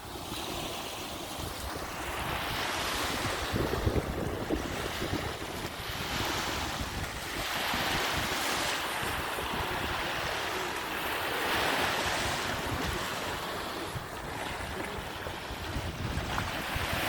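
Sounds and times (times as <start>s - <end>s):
sea waves breaking on beach: 0.0s - 17.0s.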